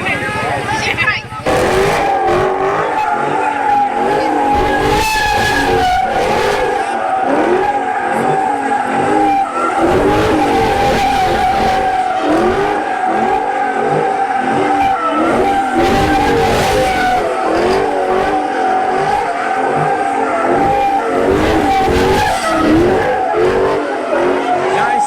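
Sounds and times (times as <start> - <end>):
car engine revving: 0.0 - 25.0
tyres squealing: 0.0 - 25.0.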